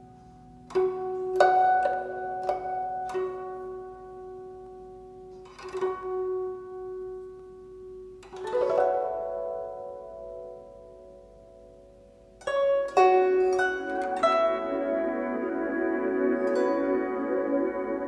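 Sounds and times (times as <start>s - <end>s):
plucked zither notes: 0.0s - 18.0s.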